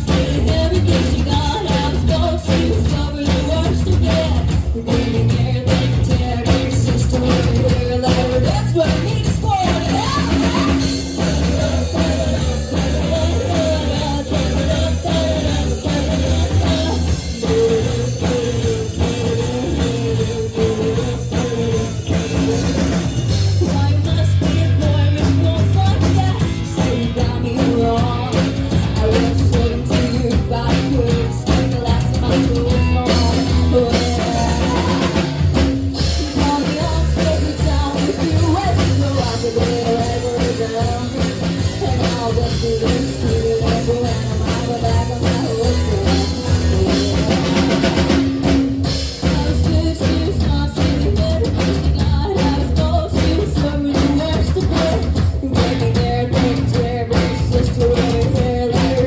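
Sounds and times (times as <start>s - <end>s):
person singing: 0.0s - 59.0s
rock band playing live: 0.0s - 59.0s.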